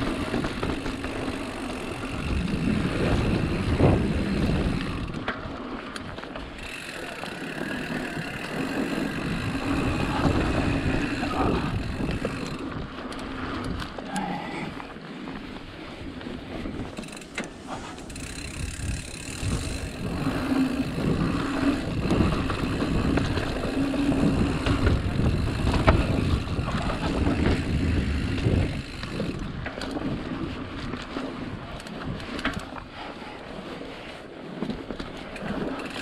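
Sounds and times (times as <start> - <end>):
bike rattling: 0.0 - 36.0
bike tyres rumbling on dirt: 0.0 - 36.0
wind buffeting microphone: 0.0 - 36.0.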